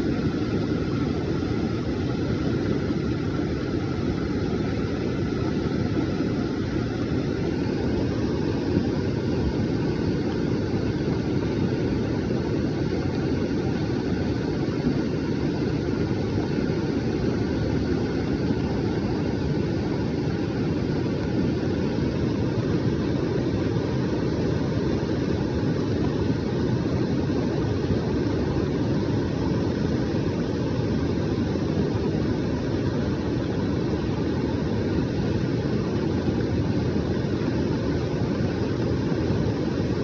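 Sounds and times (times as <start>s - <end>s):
floodwater rushing: 0.0s - 40.0s.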